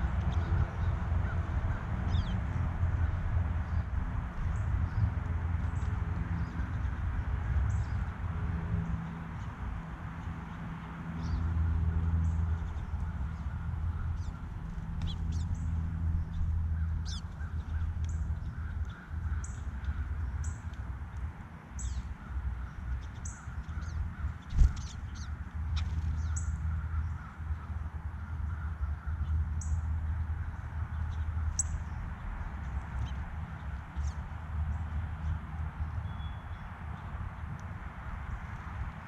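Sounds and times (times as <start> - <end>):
small birds chirping: 0.0 - 8.1, 11.2 - 38.6.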